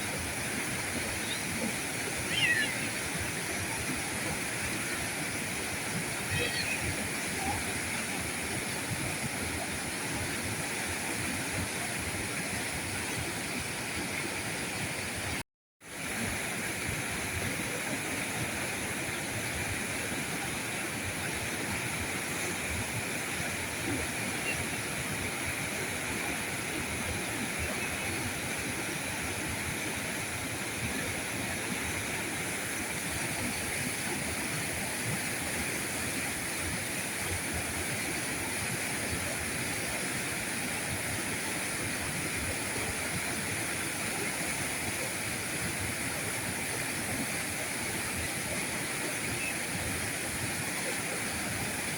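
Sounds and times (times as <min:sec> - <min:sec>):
river rushing over rocks: 0:00.0 - 0:51.9.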